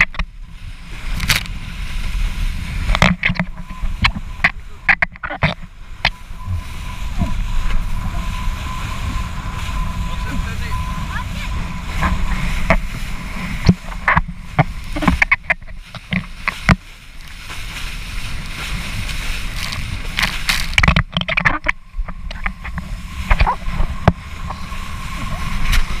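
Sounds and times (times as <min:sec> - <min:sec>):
board skimming over water: 0:00.0 - 0:26.0
water splashes and slaps: 0:00.0 - 0:26.0
wind rumbling on microphone: 0:00.0 - 0:26.0.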